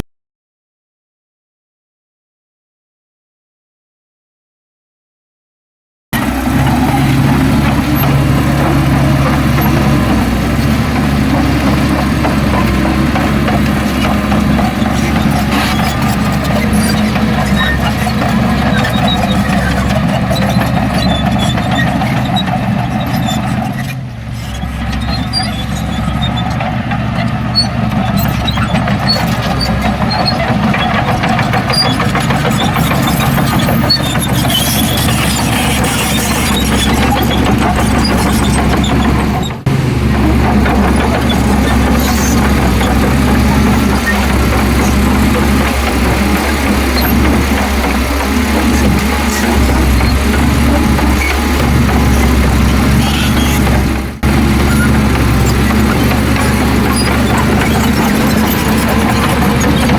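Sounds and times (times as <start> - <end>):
heavy diesel machinery running: 6.2 - 59.9.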